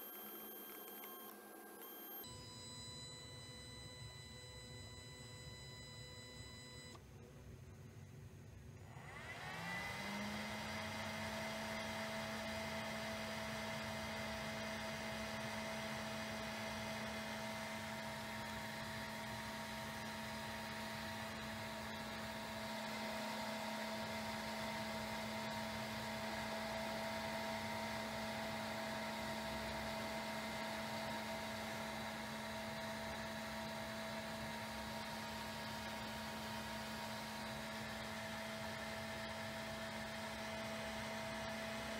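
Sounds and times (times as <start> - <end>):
small cooling fan humming: 0.0 - 41.9.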